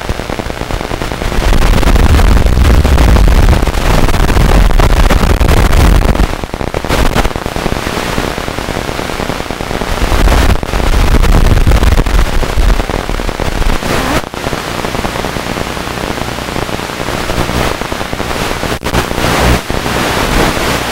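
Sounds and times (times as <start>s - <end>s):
crackling static hiss: 0.0s - 20.9s.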